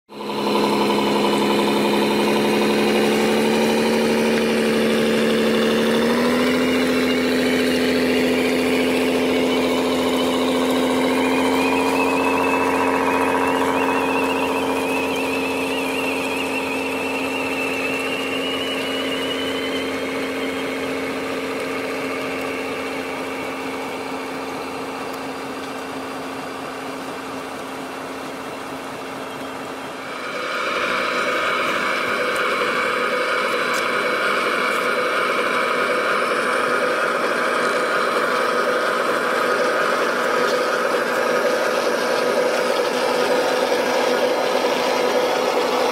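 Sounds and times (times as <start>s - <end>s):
high whine: 0.1s - 45.9s
toy truck engine drone: 0.1s - 45.9s.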